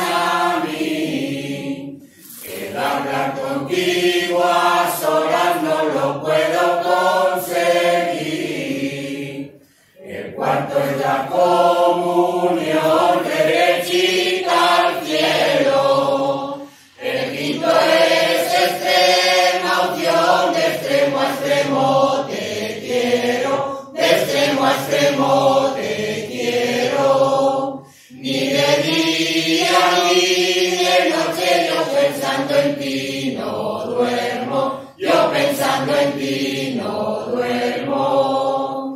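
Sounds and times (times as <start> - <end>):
mixed choir singing: 0.0 - 38.9.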